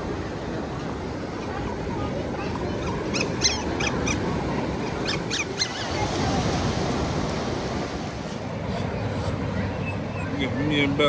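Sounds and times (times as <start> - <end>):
surf: 0.0 - 11.0
wind: 0.0 - 11.0.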